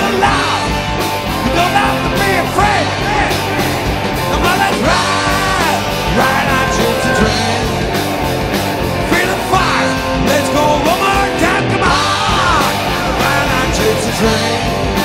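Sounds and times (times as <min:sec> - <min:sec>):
live rock band playing: 0:00.0 - 0:15.0
bending guitar lead line: 0:00.3 - 0:13.6.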